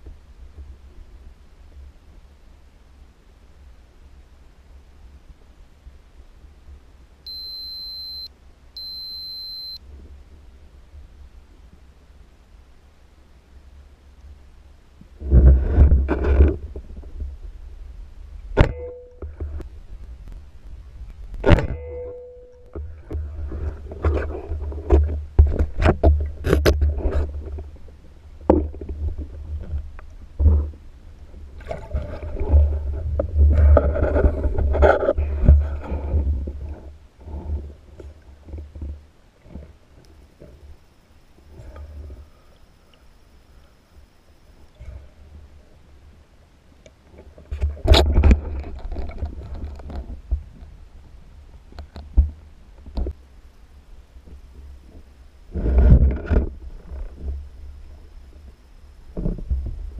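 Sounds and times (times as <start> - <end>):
underwater rumble of moving water: 9.9 - 59.9.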